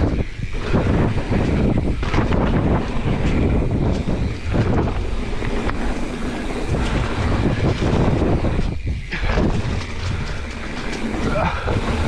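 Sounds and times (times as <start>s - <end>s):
bike tyre and frame rattle: 0.0s - 12.0s
wind buffeting microphone: 0.0s - 12.0s.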